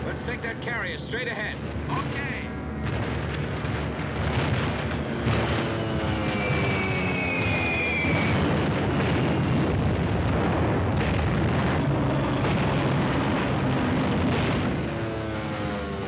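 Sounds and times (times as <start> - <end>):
heavy explosion rumble: 1.2 - 15.2
sharp bomb blasts: 1.6 - 15.1.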